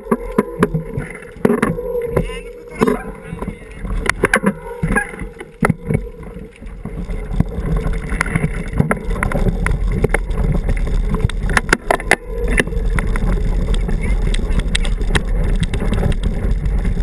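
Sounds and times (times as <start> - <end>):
bike tyres rumbling on gravel: 0.0 - 17.0.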